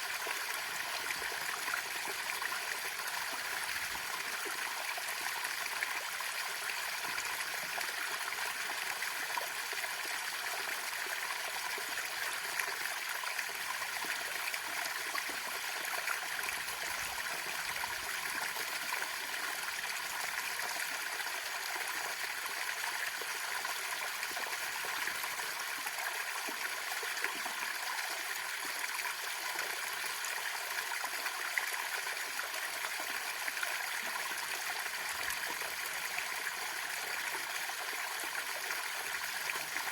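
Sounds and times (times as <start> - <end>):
small waterfall pouring: 0.0 - 39.9.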